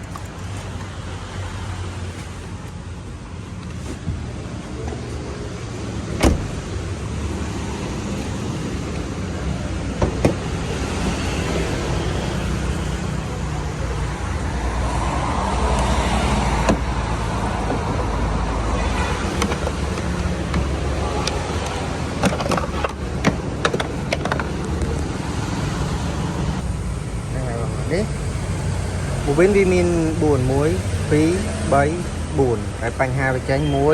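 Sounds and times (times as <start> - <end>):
car engine humming: 0.0 - 33.9.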